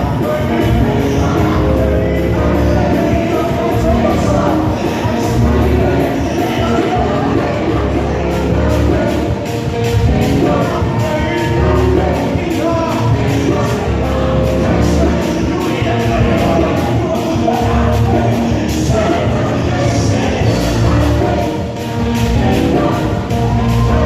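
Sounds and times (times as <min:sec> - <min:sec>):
choir singing: 0:00.0 - 0:24.0
live band with drum beat: 0:00.0 - 0:24.0.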